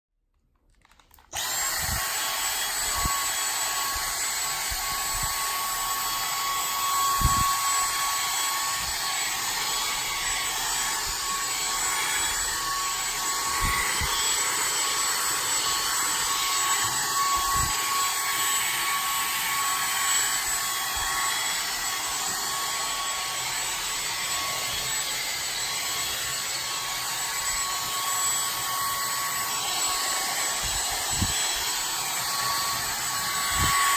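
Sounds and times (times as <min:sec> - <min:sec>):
vacuum cleaner whining: 0:01.1 - 0:33.9.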